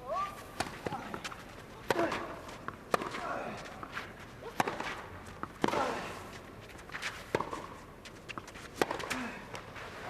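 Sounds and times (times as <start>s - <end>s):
rackets hitting tennis ball: 0.1s - 10.0s.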